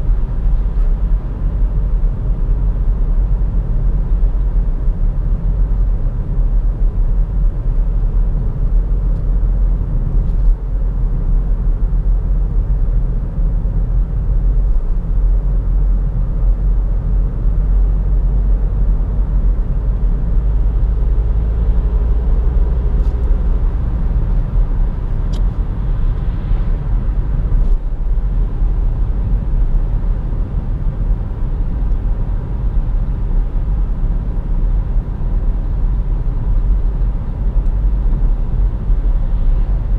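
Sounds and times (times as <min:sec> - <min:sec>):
diesel engine: 0:00.0 - 0:39.9
wind noise inside car: 0:00.0 - 0:39.9.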